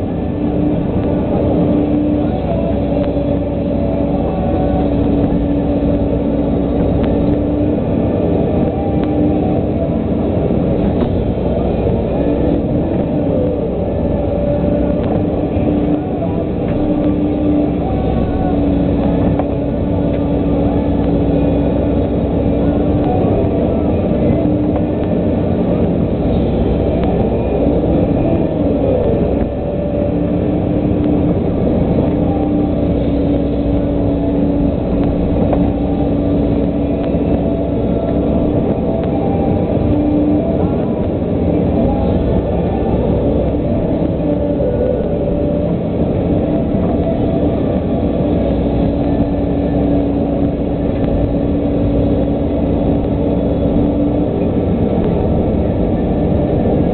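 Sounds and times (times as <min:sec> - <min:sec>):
excavator diesel engine running: 0:00.0 - 0:56.9
steady whine: 0:00.0 - 0:56.9.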